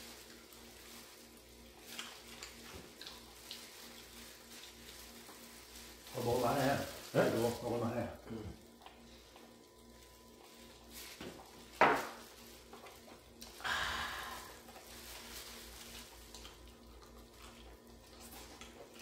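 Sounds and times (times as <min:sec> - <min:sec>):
people gnawing food: 0:00.0 - 0:19.0.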